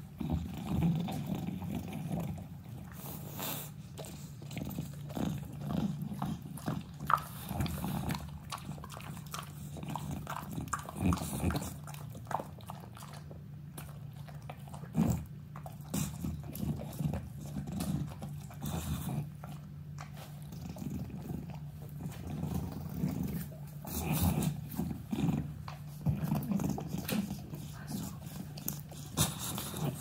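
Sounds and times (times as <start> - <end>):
dog chewing and licking: 0.0 - 30.0.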